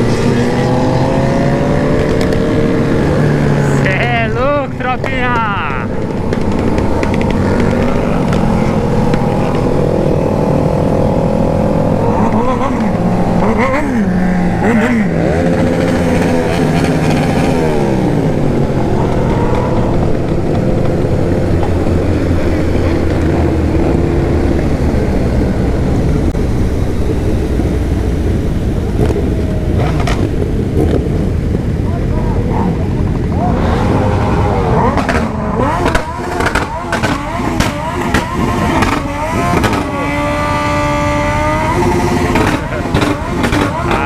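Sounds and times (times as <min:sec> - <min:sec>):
motorcycle engines revving: 0:00.0 - 0:44.0.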